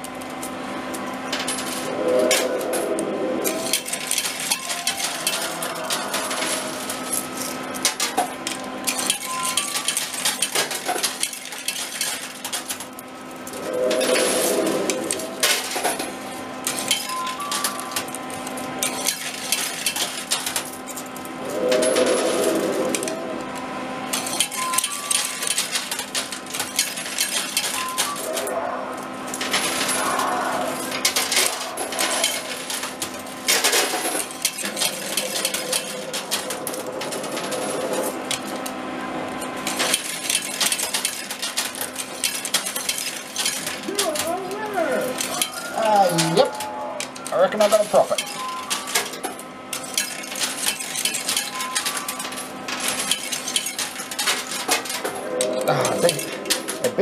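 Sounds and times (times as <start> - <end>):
steady machine hum: 0.0 - 57.0
coins clinking and clattering: 0.2 - 2.5, 3.5 - 23.2, 24.1 - 28.5, 29.3 - 38.8, 39.4 - 57.0.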